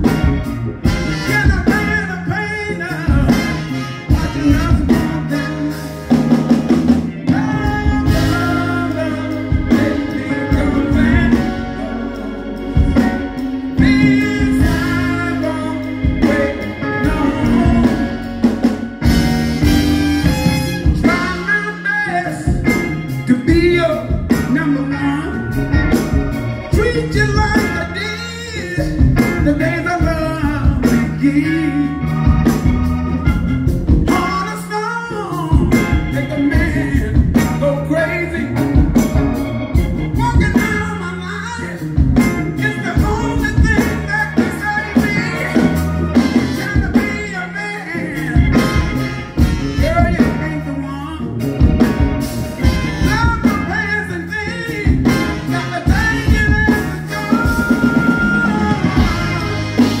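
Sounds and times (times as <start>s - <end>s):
drum kit: 0.0s - 60.0s
electric bass: 0.0s - 60.0s
electric guitar: 0.0s - 60.0s
keyboard: 0.0s - 60.0s
man singing lead: 0.0s - 60.0s.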